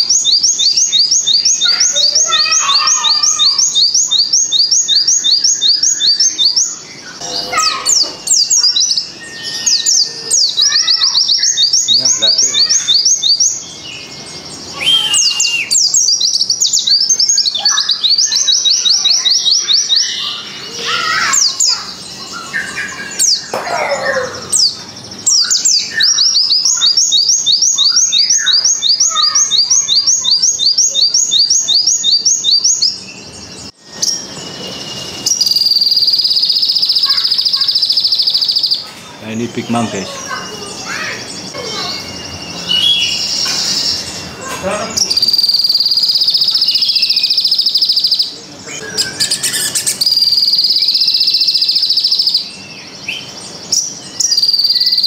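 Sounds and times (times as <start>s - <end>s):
bird singing rapid high notes: 0.0s - 55.0s
buzzing high bird song: 0.0s - 55.0s.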